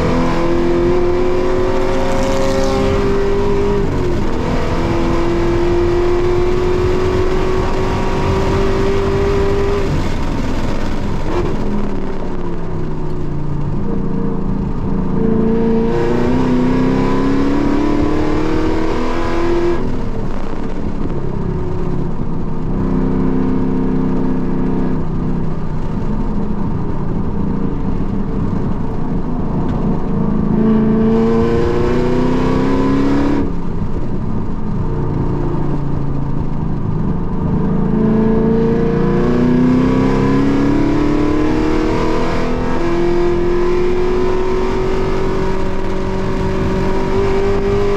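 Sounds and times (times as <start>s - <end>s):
car engine accelerating: 0.0s - 47.9s
road noise: 0.0s - 47.9s.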